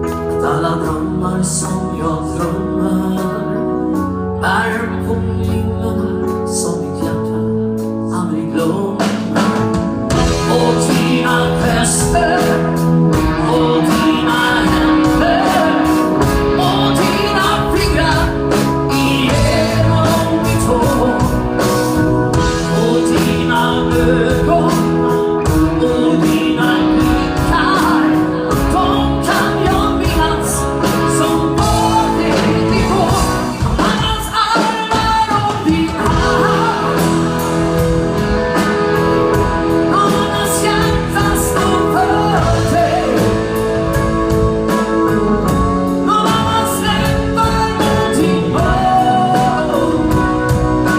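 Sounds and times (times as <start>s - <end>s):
band playing a song: 0.0s - 50.9s
lead vocal singing: 0.0s - 50.9s
steady drum beat: 9.1s - 50.9s.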